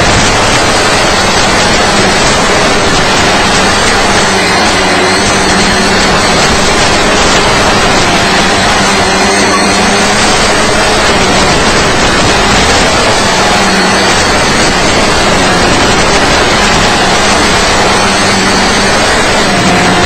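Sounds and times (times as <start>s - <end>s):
drone motors buzzing: 0.0s - 20.0s
heavy radio hiss: 0.0s - 20.0s.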